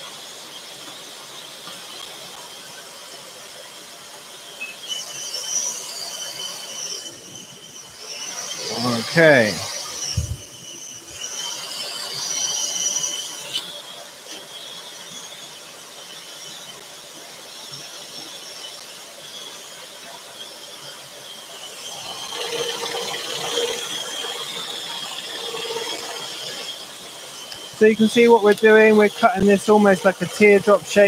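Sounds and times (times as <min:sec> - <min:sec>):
scroll saw cutting wood: 0:00.8 - 0:31.0.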